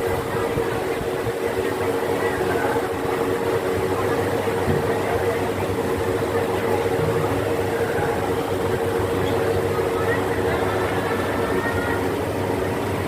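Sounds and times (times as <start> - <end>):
busy background noise: 0.0 - 13.0
mechanical motor hum: 0.0 - 13.0.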